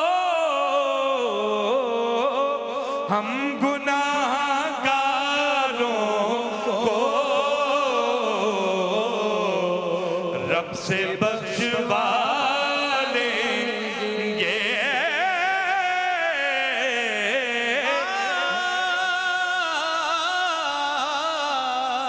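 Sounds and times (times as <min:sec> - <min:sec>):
person singing devotional hymn: 0:00.0 - 0:22.0.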